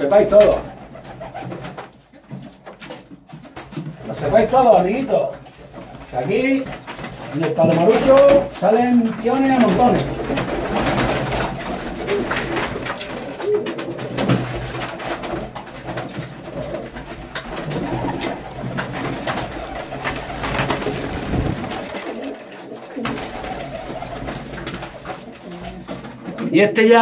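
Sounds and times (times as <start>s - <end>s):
pigeons cooing: 0.0s - 26.5s.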